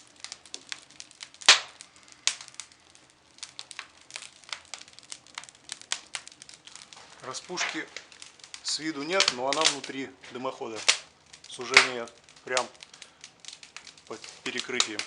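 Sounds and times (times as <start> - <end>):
crackling and clicking: 0.0 - 15.0
sharp crack: 0.0 - 15.0.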